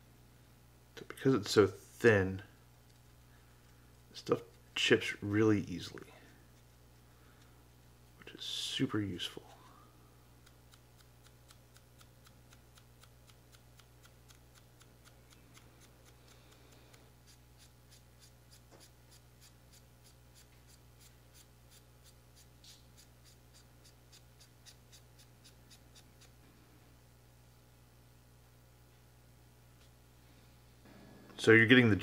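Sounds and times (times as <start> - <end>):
low room hum: 0.0 - 32.0.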